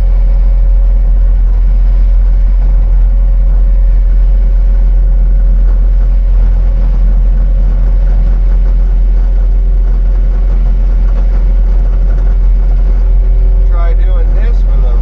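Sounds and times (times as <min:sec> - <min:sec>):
earthmoving machine engine running: 0:00.0 - 0:15.0.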